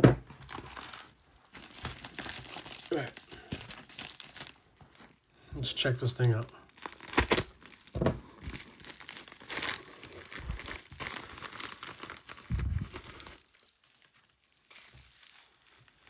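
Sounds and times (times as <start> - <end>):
packaging crinkling and rustling: 0.2 - 16.0.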